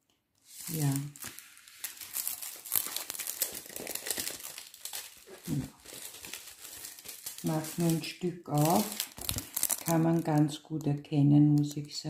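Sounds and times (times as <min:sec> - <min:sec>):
plastic packaging crinkling: 0:00.4 - 0:12.0.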